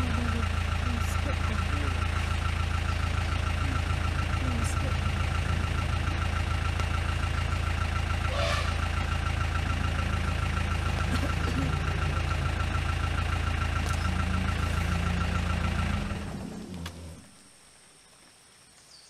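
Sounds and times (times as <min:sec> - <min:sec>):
vehicle engine idling: 0:00.0 - 0:17.9.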